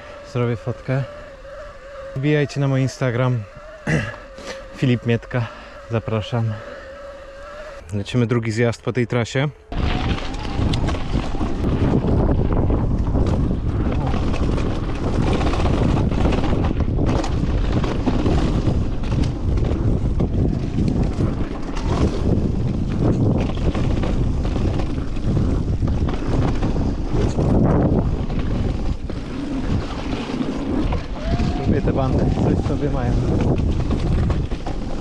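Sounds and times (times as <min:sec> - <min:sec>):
wind buffeting microphone: 0:00.0 - 0:07.8, 0:09.7 - 0:35.0.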